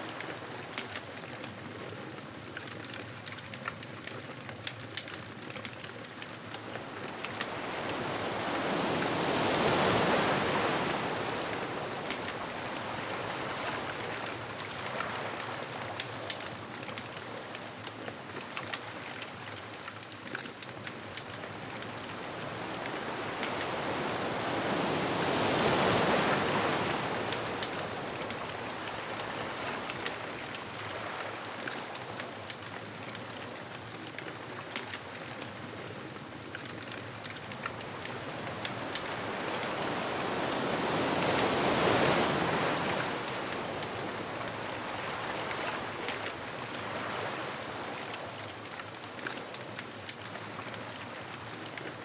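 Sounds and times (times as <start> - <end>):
ocean waves washing onto beach: 0.0 - 52.0
bonfire crackling: 0.1 - 52.0.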